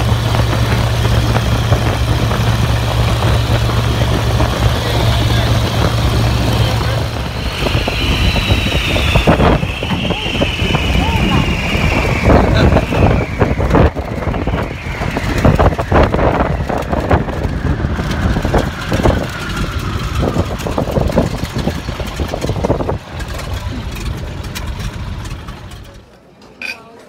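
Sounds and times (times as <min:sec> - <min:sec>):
wind buffeting microphone: 0:00.0 - 0:26.0
plane engine and propeller: 0:00.0 - 0:26.2.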